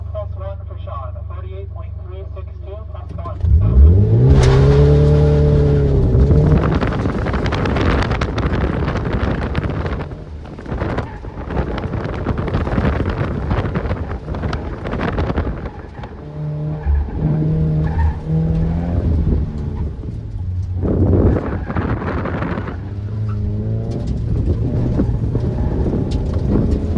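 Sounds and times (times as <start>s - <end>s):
car engine revving: 2.7s - 26.9s
wind buffeting microphone: 3.8s - 26.9s.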